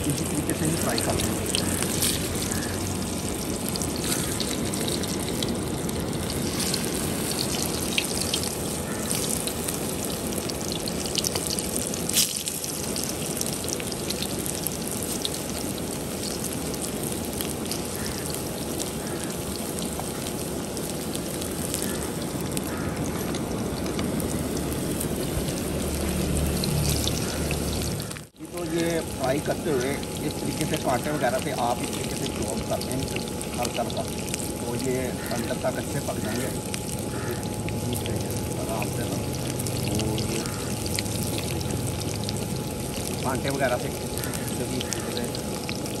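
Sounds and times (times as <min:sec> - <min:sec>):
food deep-frying in oil: 0:00.0 - 0:46.0
oil popping: 0:00.0 - 0:46.0.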